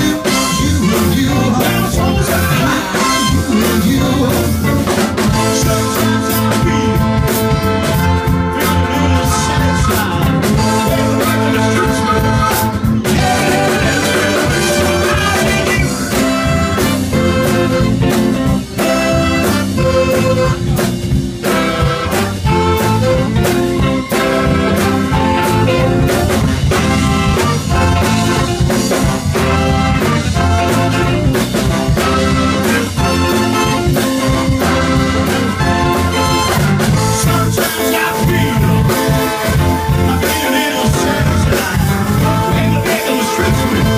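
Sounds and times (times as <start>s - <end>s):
horn section: 0.0s - 43.9s
live blues band: 0.0s - 43.9s.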